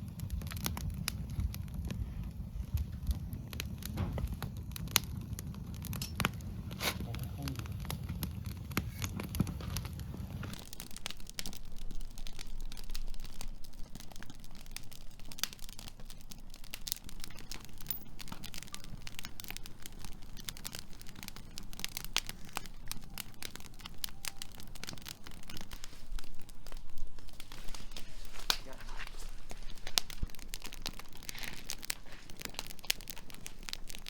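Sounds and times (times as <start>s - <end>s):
firewood crackling and popping: 0.0s - 34.0s.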